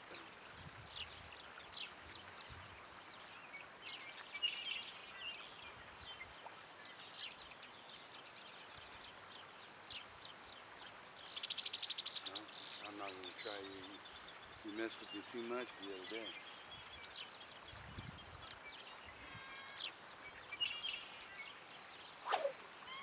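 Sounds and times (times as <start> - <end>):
faint outdoor background: 0.0 - 23.0
small birds chirping: 0.0 - 23.0.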